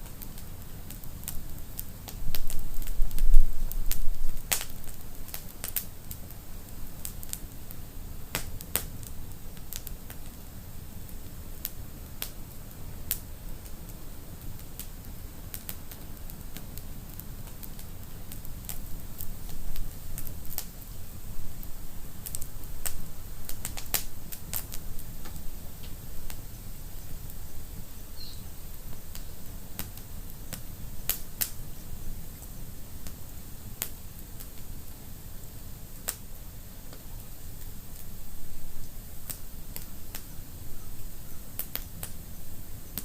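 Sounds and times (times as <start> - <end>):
low rumble of flames: 0.0 - 43.0
wood fire crackling and popping: 0.0 - 43.0.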